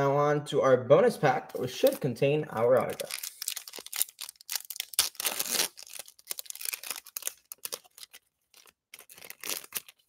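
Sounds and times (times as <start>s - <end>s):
wrapper crinkling and tearing: 1.8s - 10.0s.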